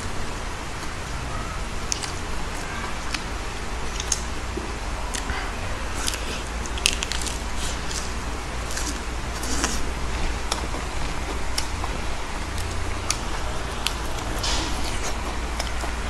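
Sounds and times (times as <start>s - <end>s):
chewing crisp lettuce: 0.6s - 16.0s.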